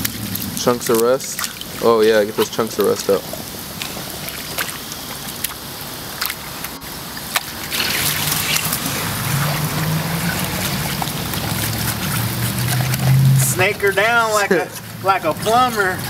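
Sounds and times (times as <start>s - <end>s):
water rushing through hose: 0.0s - 16.0s
water splashing on wet pavement: 0.0s - 16.0s.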